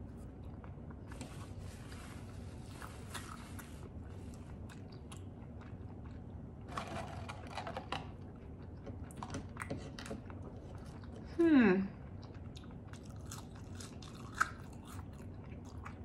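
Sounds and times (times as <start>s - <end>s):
person chewing food: 0.0s - 6.7s, 8.2s - 11.3s, 12.0s - 16.0s
low steady hum: 0.0s - 16.0s.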